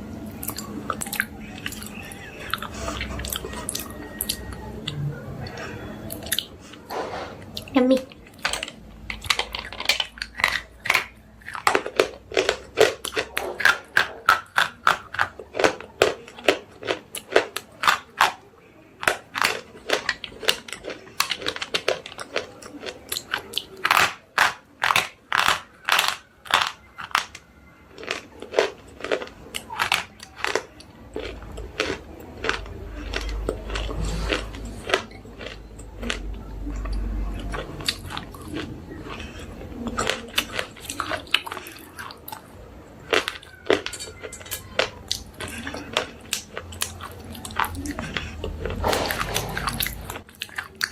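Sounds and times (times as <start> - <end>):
slate pencils being chewed: 0.3 - 50.9.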